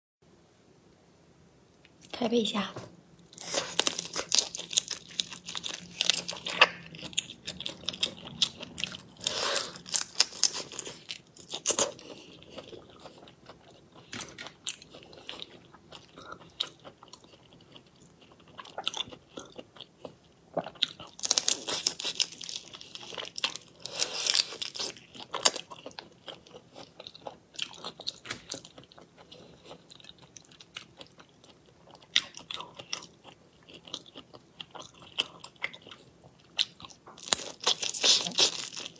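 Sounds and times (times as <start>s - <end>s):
biting and chewing: 3.3s - 38.9s.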